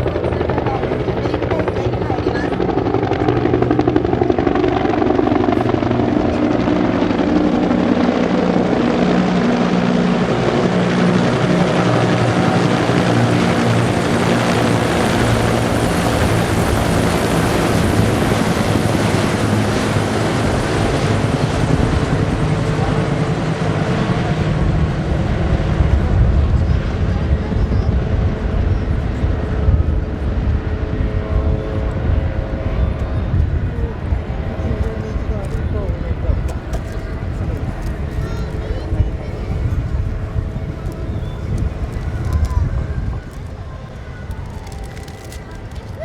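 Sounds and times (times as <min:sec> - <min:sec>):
helicopters flying past: 0:00.0 - 0:46.0.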